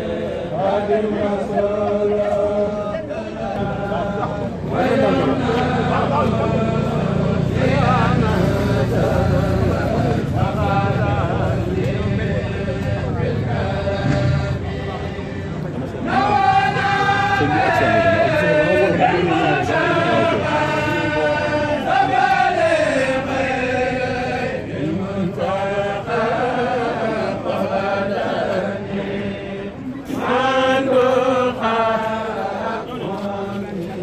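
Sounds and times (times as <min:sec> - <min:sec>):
men chanting in unison: 0:00.0 - 0:34.0.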